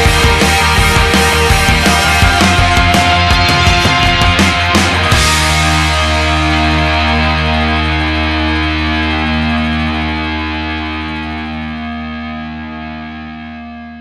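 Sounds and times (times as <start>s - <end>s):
distorted guitar chord ringing: 0.0s - 14.0s.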